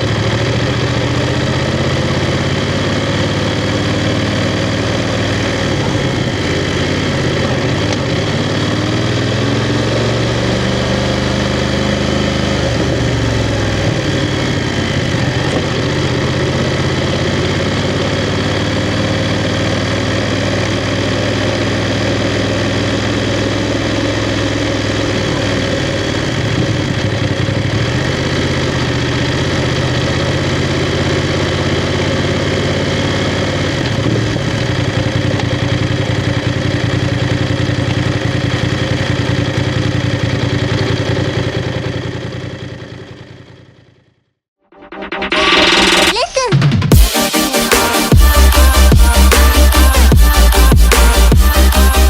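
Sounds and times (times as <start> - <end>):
motorcycle engine idling: 0.0 - 44.2, 48.1 - 52.0.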